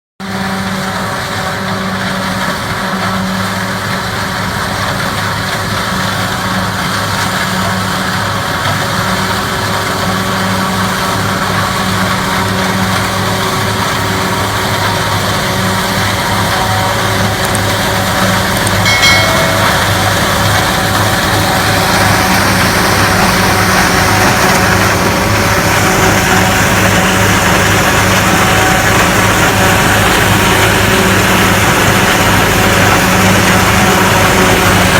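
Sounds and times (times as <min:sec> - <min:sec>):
harvester diesel engine running: 0:00.2 - 0:34.9.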